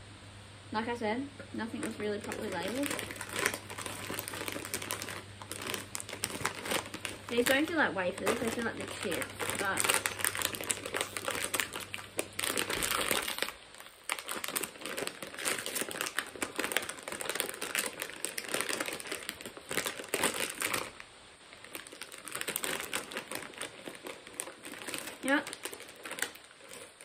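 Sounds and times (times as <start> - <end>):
plastic packet crinkling: 1.6 - 27.0.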